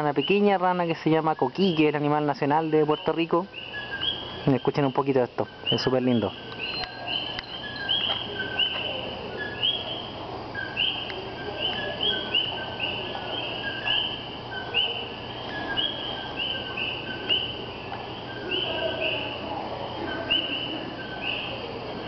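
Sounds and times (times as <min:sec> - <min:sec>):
chorus of frogs calling: 0:00.0 - 0:22.0.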